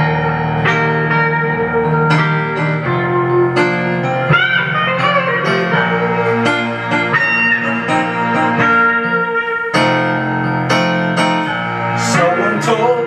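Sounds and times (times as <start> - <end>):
backing music with bass line: 0.0 - 13.0
electric guitar lead: 0.0 - 13.0.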